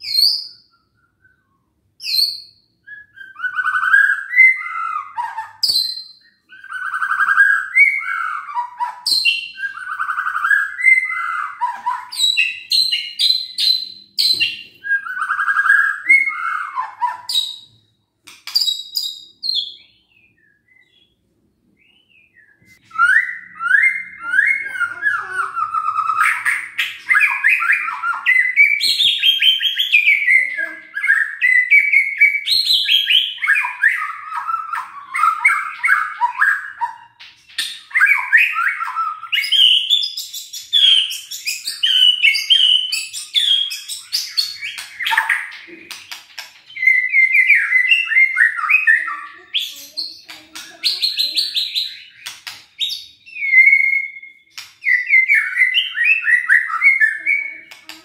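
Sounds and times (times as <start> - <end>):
bird singing whistled phrases: 0.0 - 17.8, 18.4 - 21.2, 21.8 - 45.9, 46.7 - 58.0.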